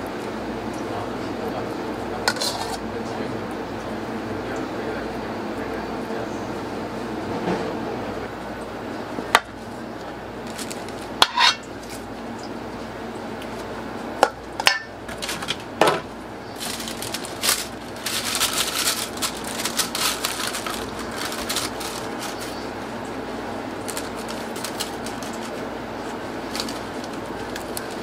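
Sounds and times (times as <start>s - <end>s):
kitchen equipment humming: 0.0s - 28.0s.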